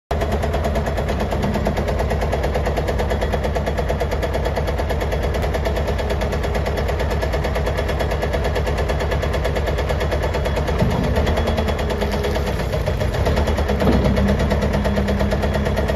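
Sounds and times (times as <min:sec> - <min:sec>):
diesel engine running rattling: 0:00.1 - 0:15.9.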